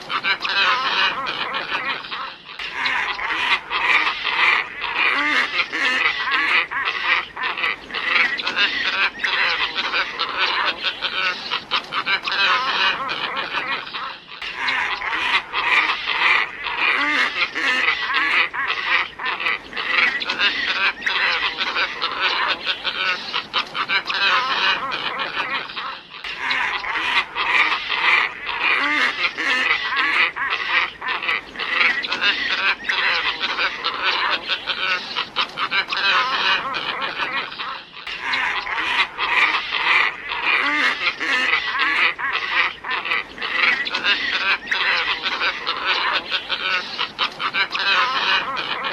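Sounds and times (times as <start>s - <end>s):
ibis flock croaking calls: 0.0s - 48.9s.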